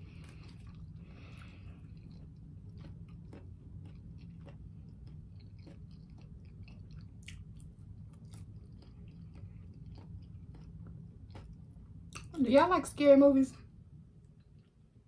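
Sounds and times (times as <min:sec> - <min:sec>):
steady low hum: 0:00.0 - 0:15.0
wet chewing mouth clicks: 0:00.2 - 0:12.4.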